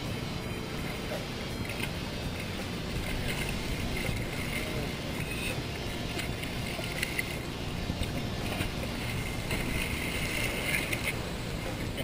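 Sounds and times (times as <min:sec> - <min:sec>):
water noise: 0:00.0 - 0:12.0.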